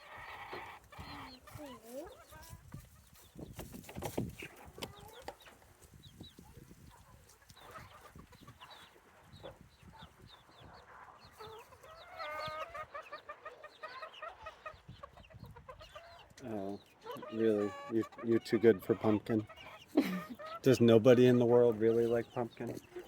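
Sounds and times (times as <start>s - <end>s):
hens clucking and chirping: 0.0s - 23.0s.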